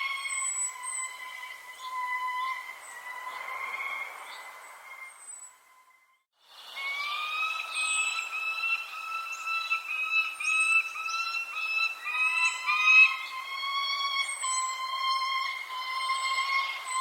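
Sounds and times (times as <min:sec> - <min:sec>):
birds chirping: 0:00.0 - 0:17.0
steady whistle-like tone: 0:00.0 - 0:17.0.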